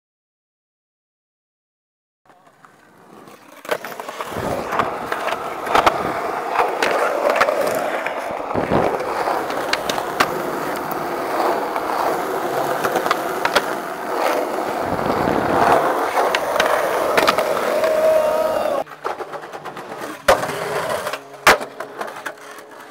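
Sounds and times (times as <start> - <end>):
skateboard clacks and landings: 2.3 - 22.9
skateboard wheels rolling on concrete: 2.3 - 22.9.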